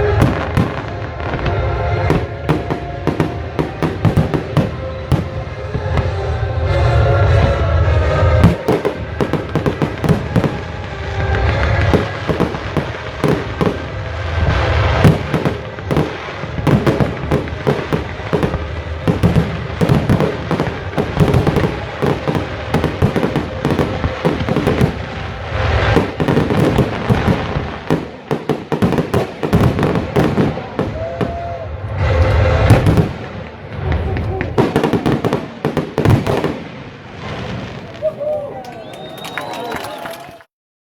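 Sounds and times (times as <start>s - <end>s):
fireworks bangs and crackles: 0.0s - 40.4s.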